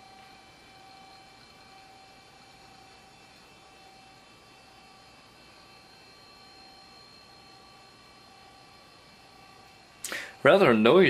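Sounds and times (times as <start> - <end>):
laptop hum and hiss: 0.0 - 11.0
whining tones: 0.0 - 11.0.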